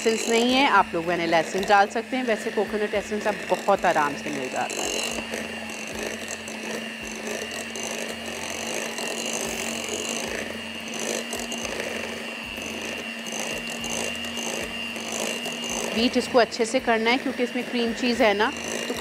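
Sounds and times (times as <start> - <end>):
electric hand mixer whining: 0.0 - 19.0.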